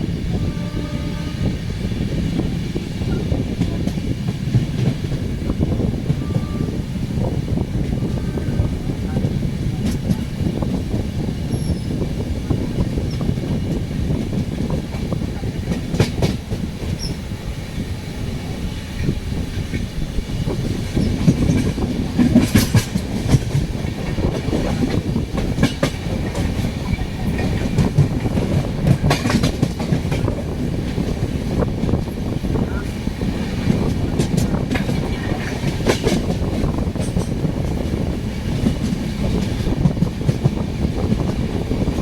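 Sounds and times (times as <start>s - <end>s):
train rumbling on track: 0.0s - 42.0s.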